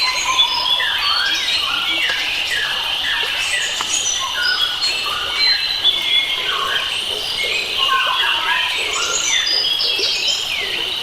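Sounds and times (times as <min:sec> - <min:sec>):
insect drone: 0:00.0 - 0:11.0
wild birds singing: 0:00.0 - 0:11.0.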